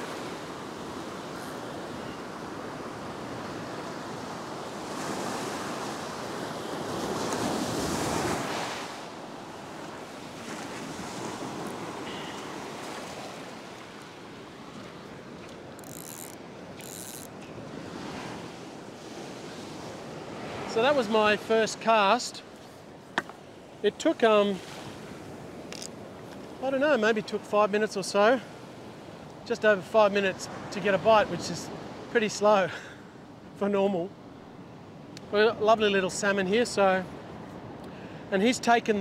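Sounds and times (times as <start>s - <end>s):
ocean surf breaking: 0.0s - 33.1s.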